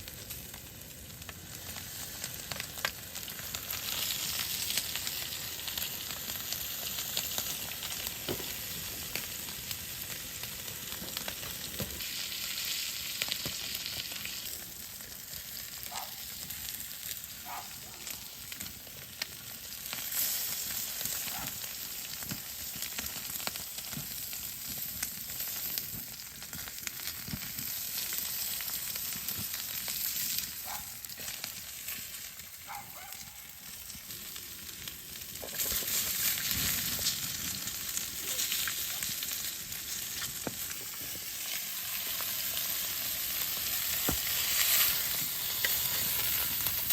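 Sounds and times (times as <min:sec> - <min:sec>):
fire pops and crackles: 0:00.0 - 0:46.9
meat sizzling: 0:00.0 - 0:46.9.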